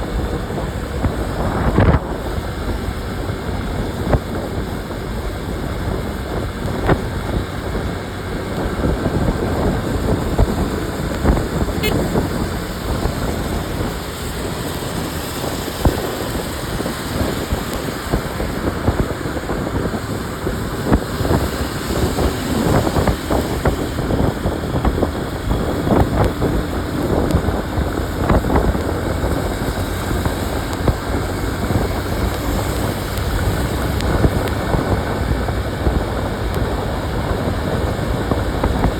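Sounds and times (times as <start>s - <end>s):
tyres on road: 0.0s - 38.9s
wind buffeting microphone: 0.0s - 38.9s.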